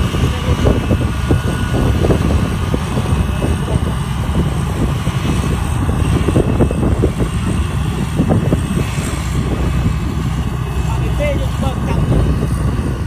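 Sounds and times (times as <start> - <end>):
combine harvester engine rumble: 0.0 - 13.0.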